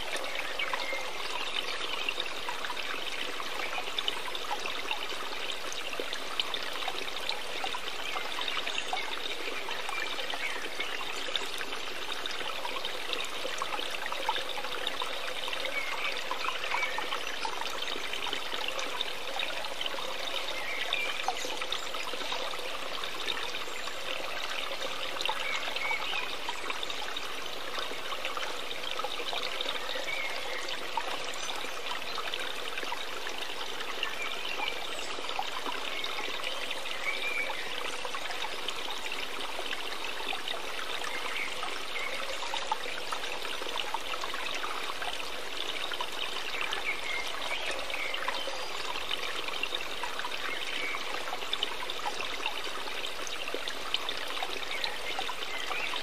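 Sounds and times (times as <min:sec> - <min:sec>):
trickling water: 0:00.0 - 0:56.0.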